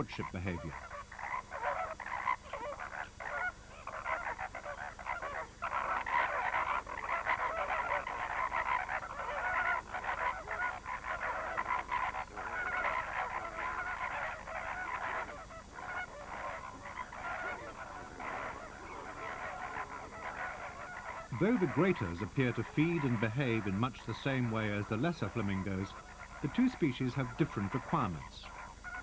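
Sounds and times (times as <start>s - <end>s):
flock of flamingos honking: 0.0s - 29.0s.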